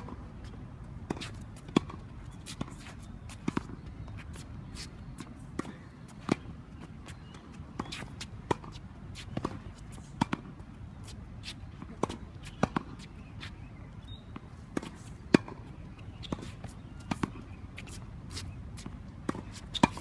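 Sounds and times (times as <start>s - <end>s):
shoes shuffling on court: 0.0s - 20.0s
tennis balls struck by racquets: 1.0s - 4.4s, 5.2s - 10.7s, 11.6s - 13.7s, 14.3s - 20.0s.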